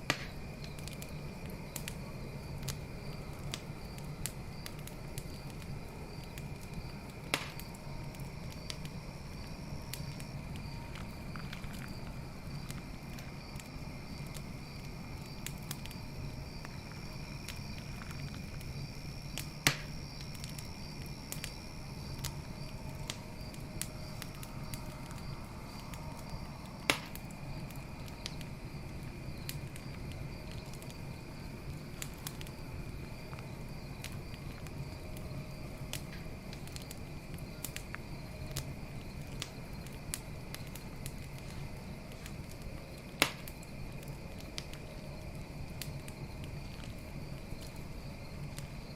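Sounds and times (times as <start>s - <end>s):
campfire crackling and popping: 0.0s - 48.9s
fire snapping loudly: 0.0s - 48.9s
night insects chirping: 0.0s - 48.9s.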